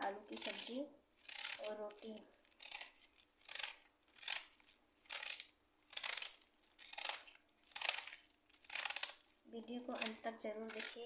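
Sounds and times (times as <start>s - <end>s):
knife shredding cabbage: 0.0s - 11.0s.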